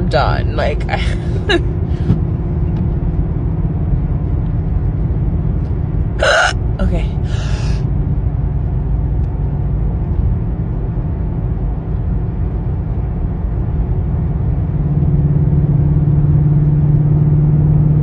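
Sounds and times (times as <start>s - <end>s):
car rumble from inside cabin: 0.0s - 18.0s
low engine hum: 0.0s - 18.0s.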